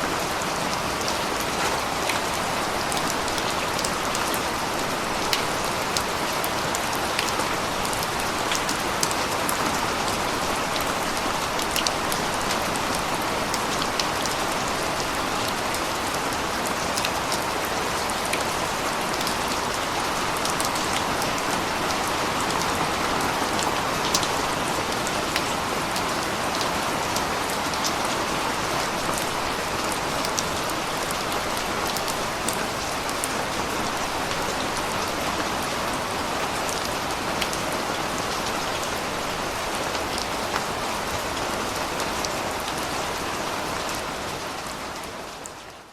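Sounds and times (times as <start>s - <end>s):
raindrops ticking on surfaces: 0.0s - 45.9s
steady rain hiss: 0.0s - 45.9s.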